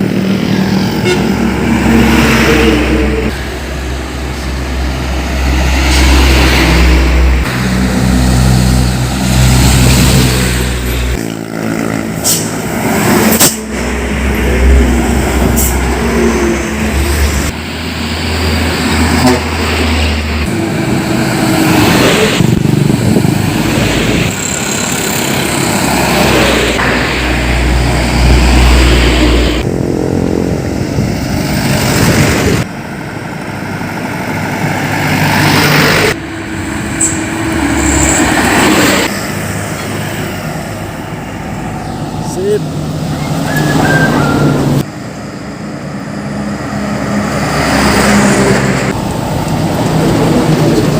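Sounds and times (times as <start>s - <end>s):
trucks passing: 0.0s - 50.9s.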